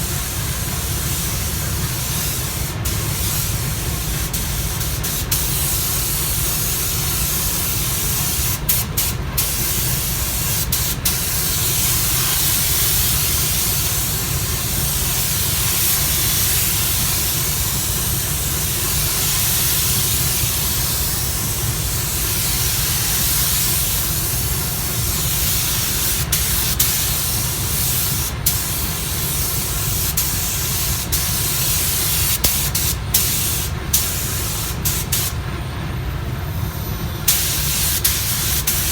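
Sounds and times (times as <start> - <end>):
spray gun hissing: 0.0 - 35.4, 37.3 - 38.9.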